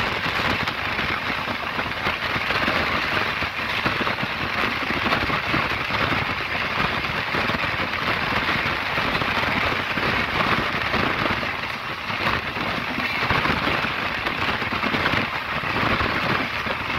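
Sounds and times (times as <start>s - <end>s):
train wheels rolling on rails: 0.0s - 16.9s
wind buffeting microphone: 0.0s - 16.9s.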